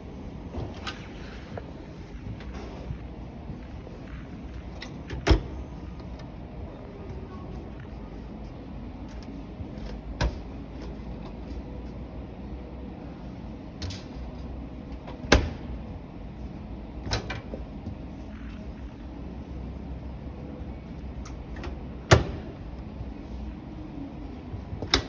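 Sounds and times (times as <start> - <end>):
shop background noise: 0.0 - 25.0.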